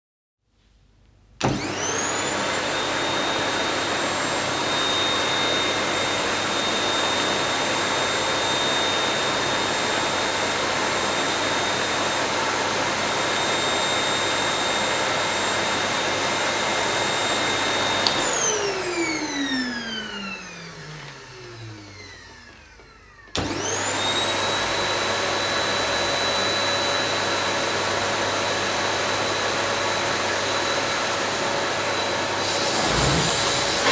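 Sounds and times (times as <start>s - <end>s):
vacuum cleaner running: 1.4s - 33.9s.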